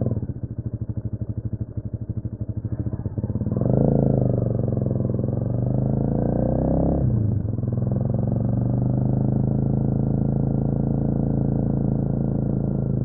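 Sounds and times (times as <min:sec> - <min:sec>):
motorcycle engine idling: 0:00.0 - 0:06.2, 0:07.0 - 0:13.0
motorcycle accelerating away: 0:02.2 - 0:13.0.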